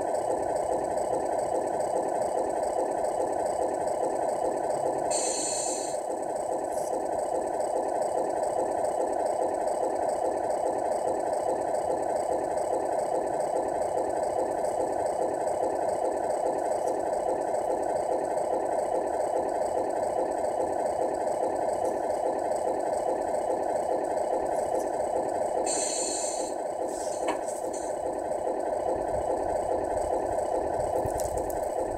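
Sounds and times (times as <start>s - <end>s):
simulated truck engine idling: 0.0s - 31.9s.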